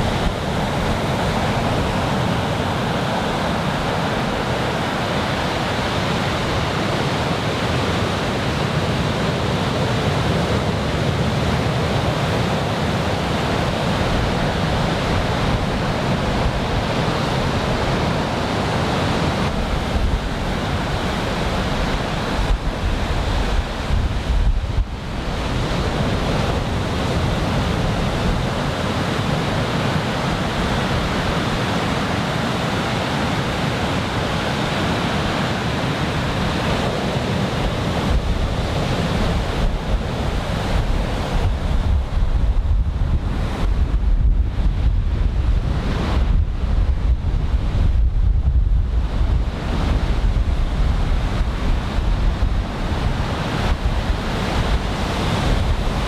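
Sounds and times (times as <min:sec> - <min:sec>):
ocean surf breaking: 0:00.0 - 0:56.0
wind buffeting microphone: 0:00.0 - 0:56.0.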